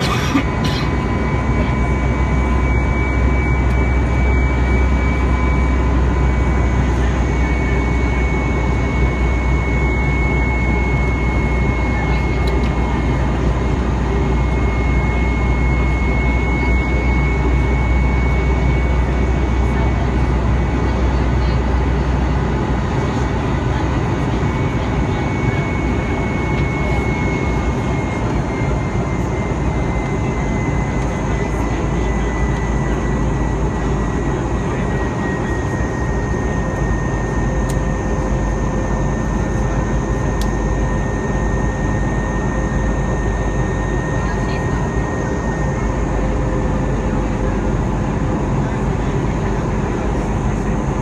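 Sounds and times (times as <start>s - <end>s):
airplane cabin engine rumble: 0.0s - 51.0s.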